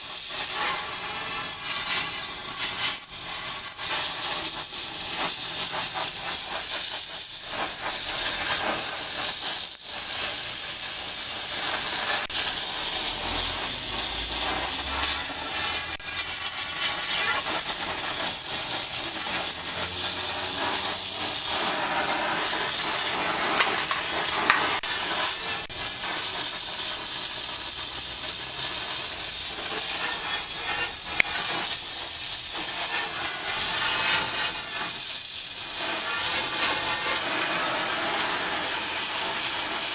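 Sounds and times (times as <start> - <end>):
gas torch hissing: 0.0 - 39.9.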